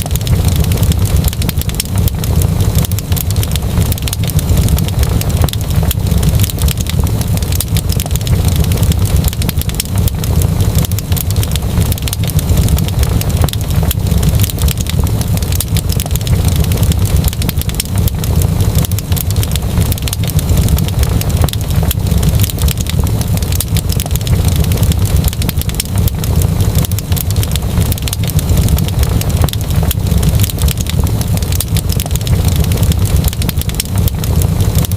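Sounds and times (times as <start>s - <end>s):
fireplace fire crackling: 0.0s - 34.9s.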